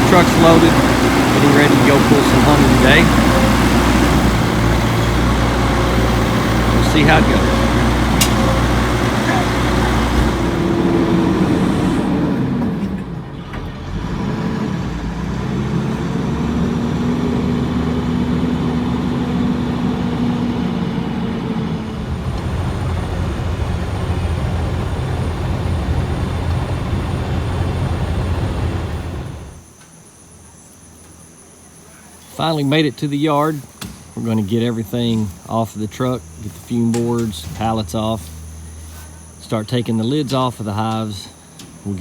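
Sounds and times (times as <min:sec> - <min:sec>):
insects chirping: 0:00.0 - 0:13.9, 0:15.0 - 0:42.0
pickup truck engine driving: 0:00.0 - 0:29.7, 0:32.4 - 0:42.0.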